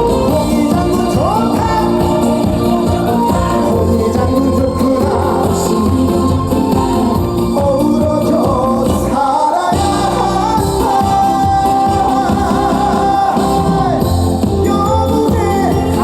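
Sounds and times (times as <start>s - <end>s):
band playing: 0.0s - 16.0s
person singing: 0.0s - 16.0s.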